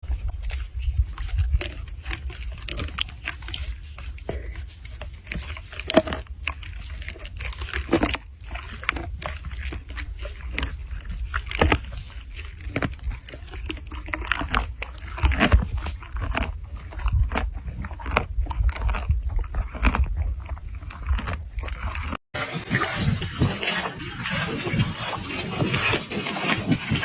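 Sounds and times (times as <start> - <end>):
animal crunching and chewing: 0.0 - 27.0.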